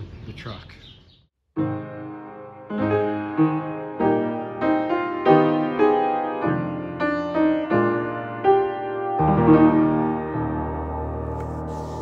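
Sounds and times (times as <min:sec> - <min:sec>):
piano melody: 0:01.6 - 0:12.0.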